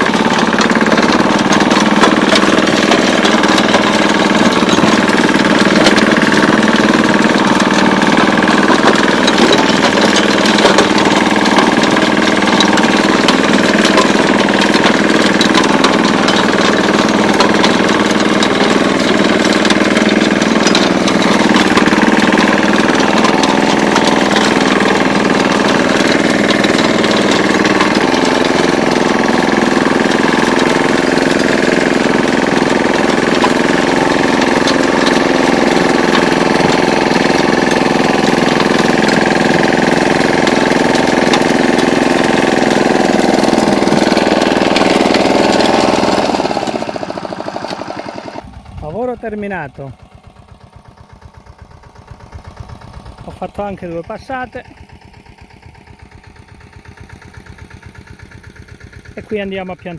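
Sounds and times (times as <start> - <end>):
diesel engine running: 0.0 - 59.9
rotary tiller clattering: 0.0 - 59.9.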